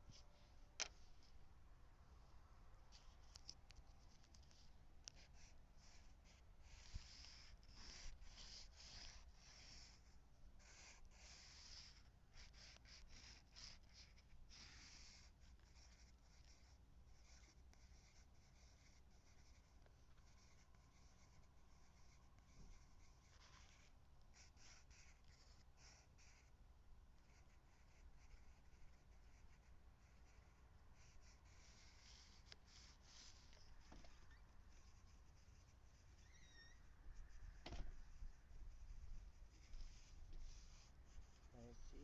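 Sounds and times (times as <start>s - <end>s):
scratchy drawing on paper: 2.9s - 26.6s, 27.2s - 42.0s.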